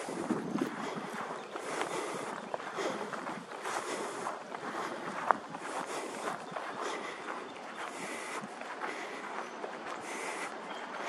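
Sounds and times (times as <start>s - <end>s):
footsteps on pavement: 0.0s - 11.0s.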